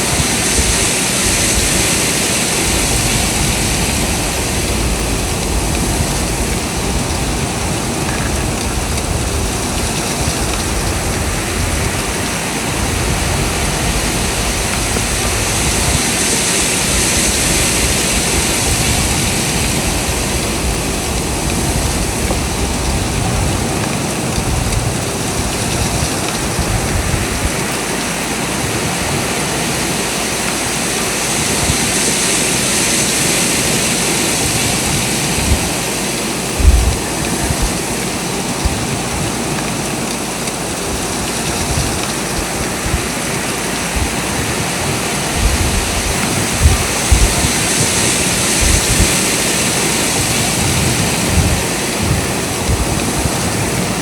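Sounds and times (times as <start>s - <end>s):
blizzard wind gusting: 0.0s - 54.0s
low buffeting wind rumbles: 0.0s - 54.0s.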